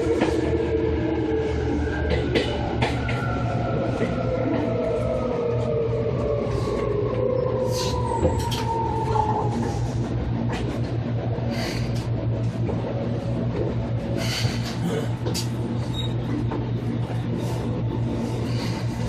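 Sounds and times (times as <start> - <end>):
electric train whine: 0.0 - 19.0
steady low rumble: 0.0 - 19.0.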